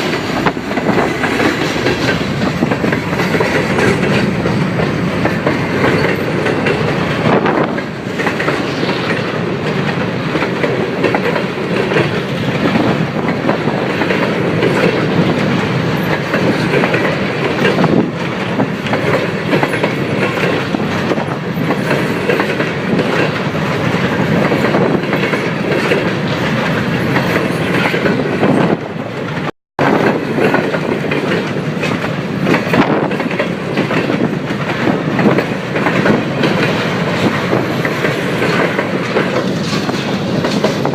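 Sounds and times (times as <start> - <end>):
freight train wheels clattering: 0.0 - 40.9.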